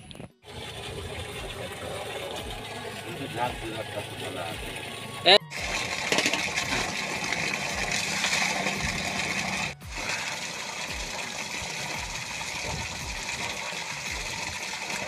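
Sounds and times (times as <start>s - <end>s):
water gushing and splashing: 0.4s - 15.0s.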